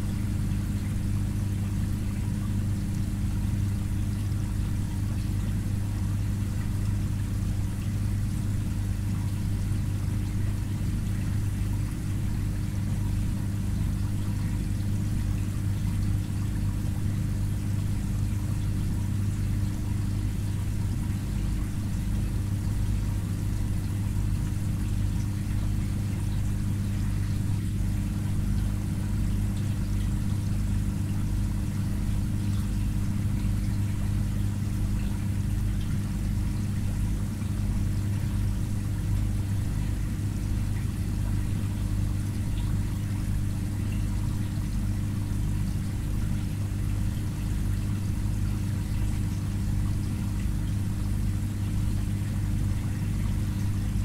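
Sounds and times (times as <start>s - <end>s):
aquarium filter pump humming: 0.0s - 54.0s
water pouring and trickling: 0.1s - 54.0s.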